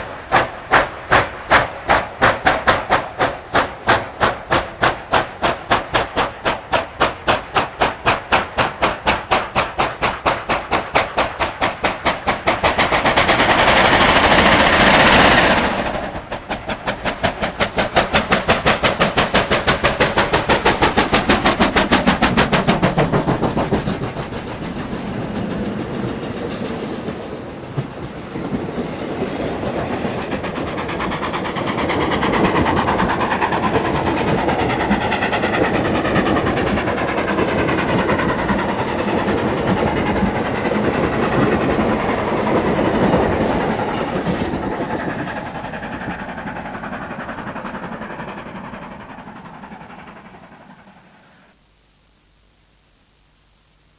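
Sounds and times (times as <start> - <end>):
wheels clacking over rail joints: 0.0 - 51.4
steam locomotive exhaust chuffs: 0.0 - 51.8
steam hissing: 0.0 - 53.9.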